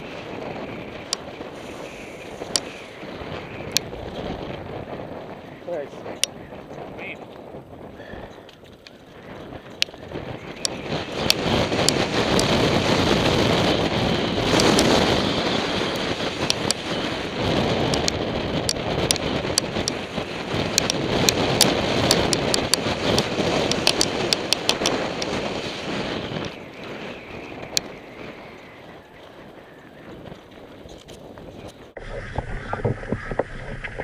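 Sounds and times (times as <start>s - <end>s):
bike clicks and rattles: 0.0s - 28.0s, 29.2s - 34.0s
tyres rumbling over dirt trail: 0.0s - 34.0s
wind noise on microphone: 0.0s - 34.0s.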